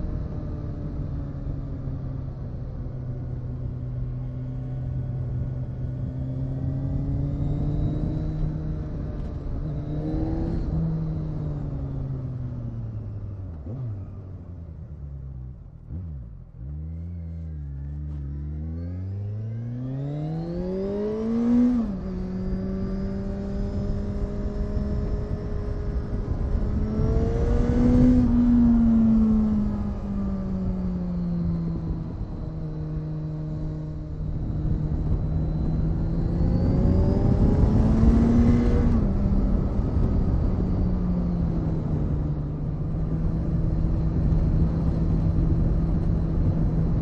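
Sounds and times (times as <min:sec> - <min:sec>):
motorcycle engine while riding: 0:00.0 - 0:47.0.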